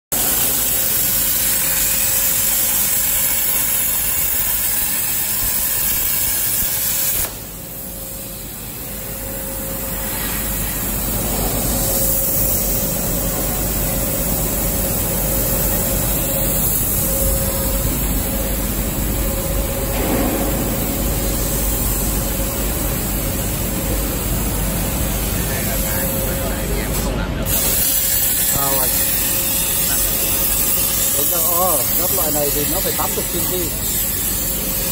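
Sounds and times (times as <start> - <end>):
machine noise: 0.1 - 34.9
plasma cutter arc hissing: 0.2 - 34.9.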